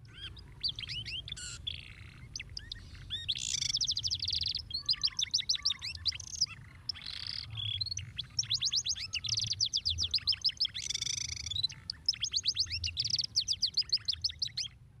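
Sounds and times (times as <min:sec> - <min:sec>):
canary singing trills: 0:00.0 - 0:14.8.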